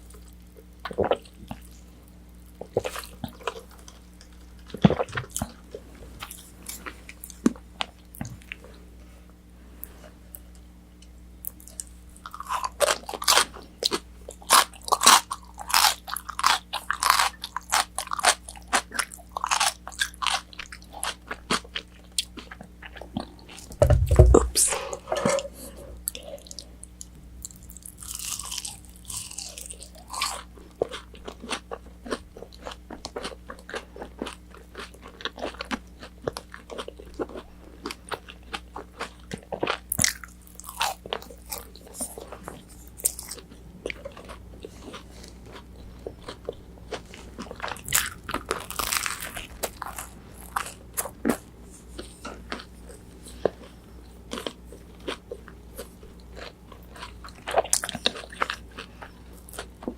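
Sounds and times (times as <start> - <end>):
crunching food: 0.0 - 8.8, 11.0 - 59.9
chewing: 11.4 - 59.9.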